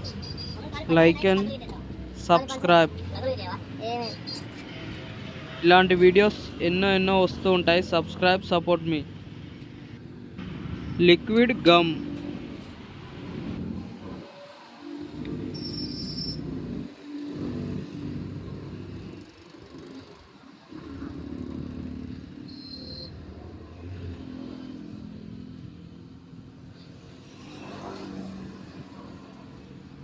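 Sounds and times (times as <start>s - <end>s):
vehicle engines revving: 0.0s - 30.0s.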